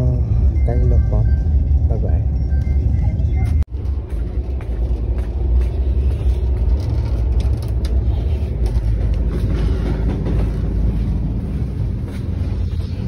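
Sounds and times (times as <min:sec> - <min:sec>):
train rumble inside coach: 0:00.0 - 0:13.0.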